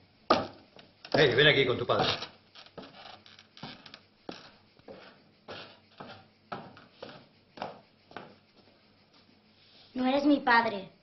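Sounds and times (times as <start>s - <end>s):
soft footsteps: 0.3s - 9.7s.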